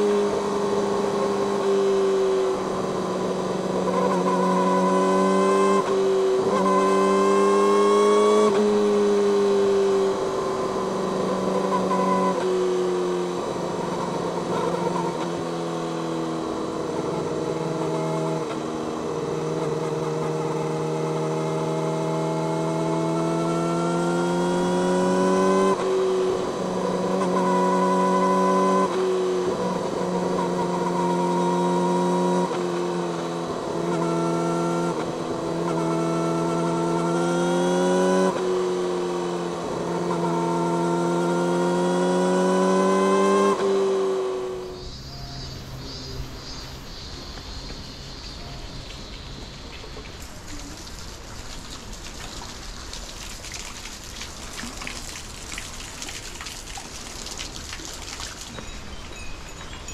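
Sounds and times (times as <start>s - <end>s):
motorcycle engine revving through gears: 0.0s - 50.5s.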